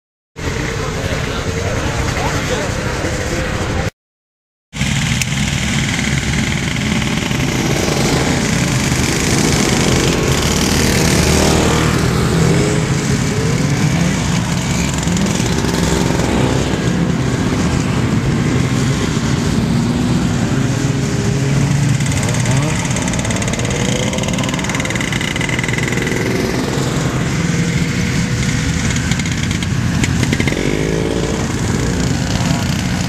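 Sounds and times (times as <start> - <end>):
snowmobile engines running: 0.4 - 3.9, 4.8 - 33.0.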